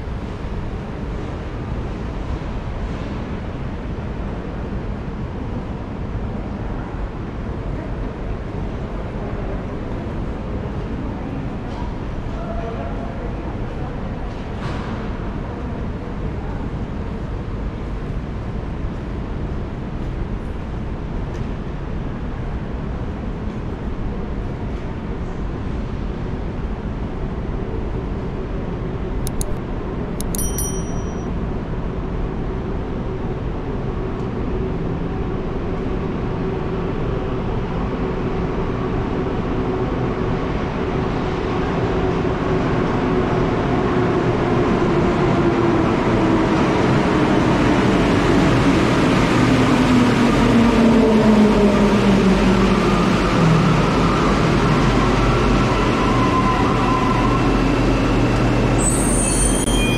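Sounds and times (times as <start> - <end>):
metro train rumble: 0.0 - 59.9.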